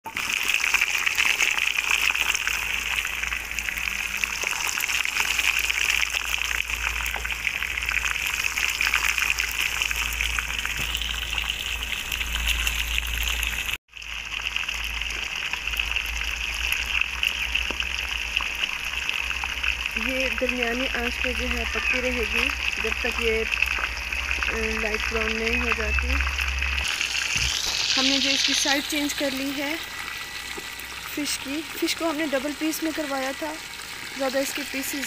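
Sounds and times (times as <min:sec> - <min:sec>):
fish sizzling in hot oil: 0:00.1 - 0:35.0.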